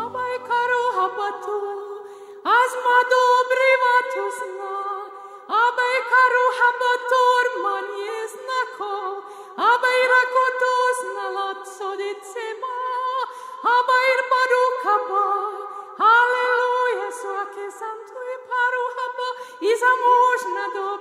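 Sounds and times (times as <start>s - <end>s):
women singing in harmony: 0.0s - 21.0s.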